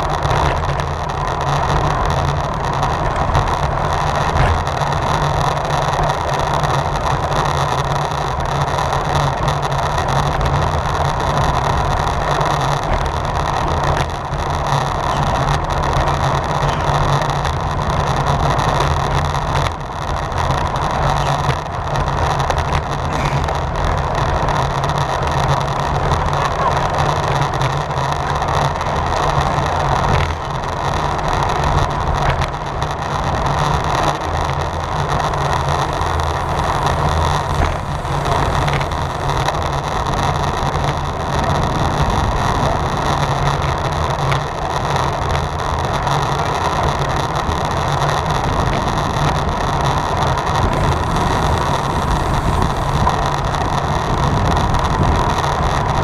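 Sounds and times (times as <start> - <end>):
wind and road noise from bike: 0.0 - 56.0.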